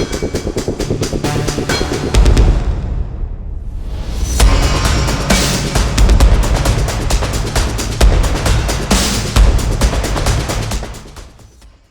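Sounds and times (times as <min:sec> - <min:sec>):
electronic music with heavy beat: 0:00.0 - 0:02.9, 0:04.4 - 0:11.9.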